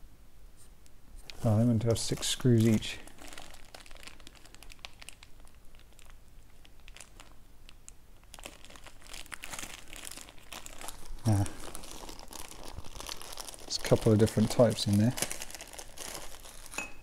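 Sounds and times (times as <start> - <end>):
plastic bag crinkling: 1.2 - 17.0.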